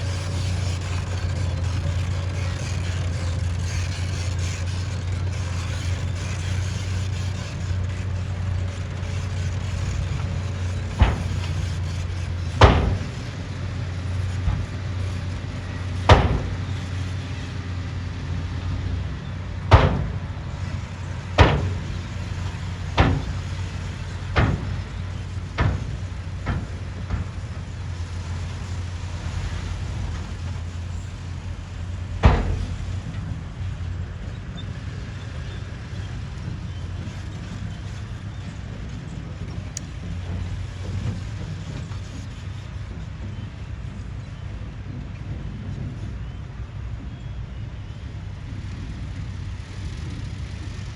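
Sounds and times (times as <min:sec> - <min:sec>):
diesel engine humming: 0:00.0 - 0:50.9.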